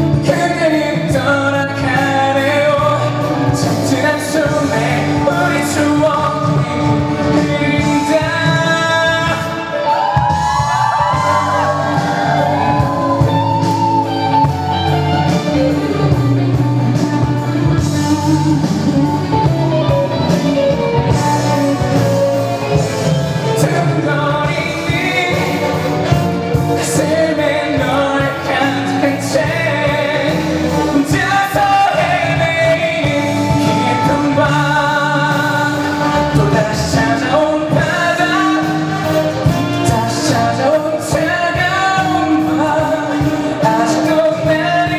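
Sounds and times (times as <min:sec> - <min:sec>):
guitar-led band playing: 0:00.0 - 0:44.9
person singing pop ballad: 0:00.0 - 0:44.9.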